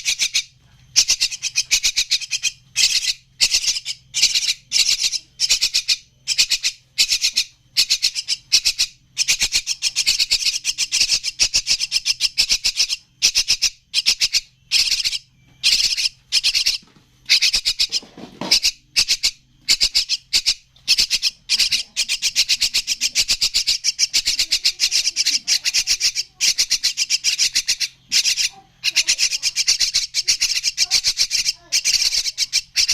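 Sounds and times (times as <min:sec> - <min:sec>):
bird chicks chattering calls: 0:00.0 - 0:32.9.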